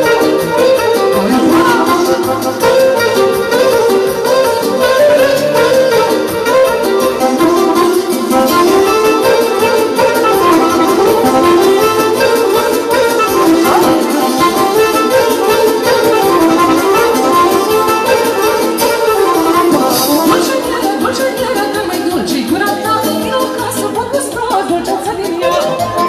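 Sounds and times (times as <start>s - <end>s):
live band playing dance tune: 0.0s - 26.0s.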